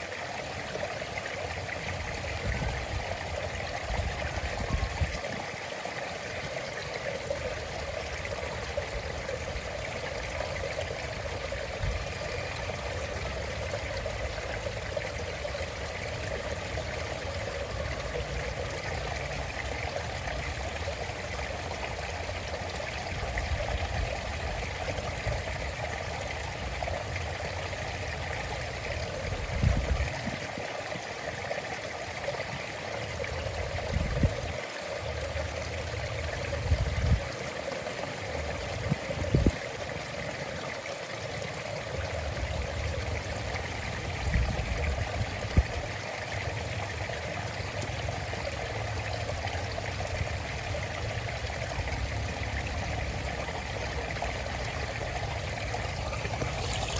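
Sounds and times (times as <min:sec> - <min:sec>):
stream trickling: 0:00.0 - 0:56.9.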